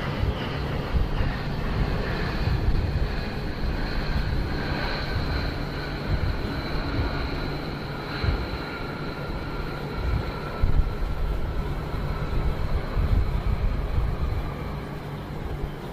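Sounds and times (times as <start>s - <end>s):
jet engine low rumble: 0.0s - 15.9s
jet engines whining: 0.0s - 15.9s.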